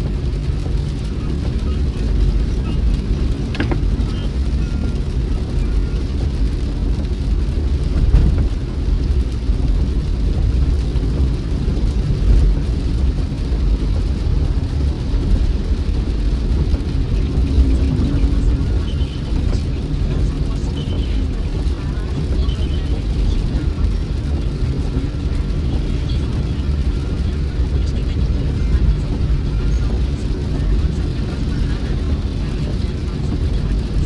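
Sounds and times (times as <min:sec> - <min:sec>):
car engine and tyres rumbling: 0:00.0 - 0:34.0
rain patter: 0:00.0 - 0:34.0.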